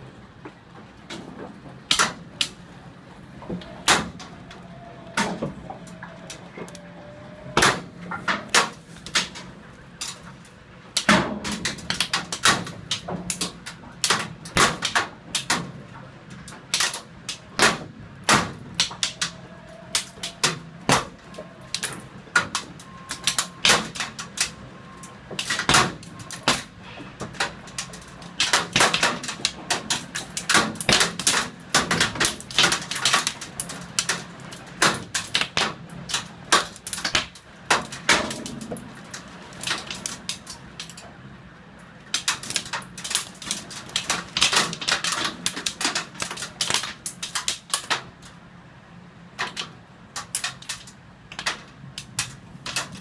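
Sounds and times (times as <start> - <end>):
rain knocking on window glass: 0.1 - 53.0.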